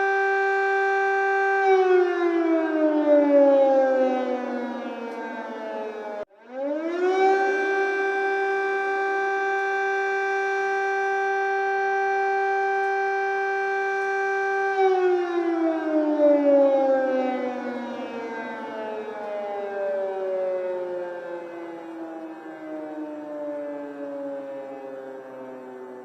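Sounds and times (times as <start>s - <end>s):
air raid siren winding down: 0.0s - 26.0s
second siren tone sinking: 0.0s - 26.0s.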